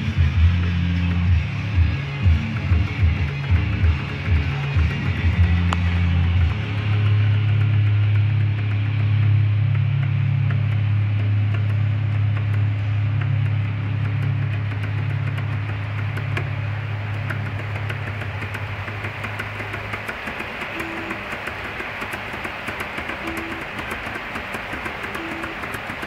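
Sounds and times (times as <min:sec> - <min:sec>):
fast even ticking: 0:00.0 - 0:26.0
stepper motor hum: 0:00.0 - 0:26.0.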